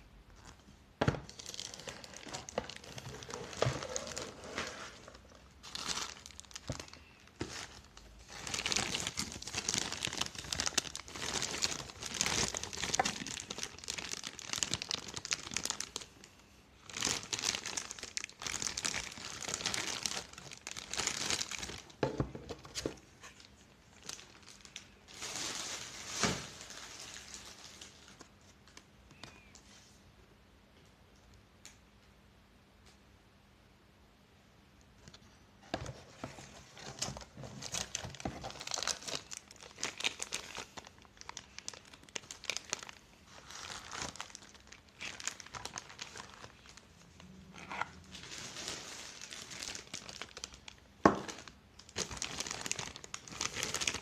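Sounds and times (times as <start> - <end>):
packaging crinkling: 1.3 - 29.5, 36.3 - 54.0.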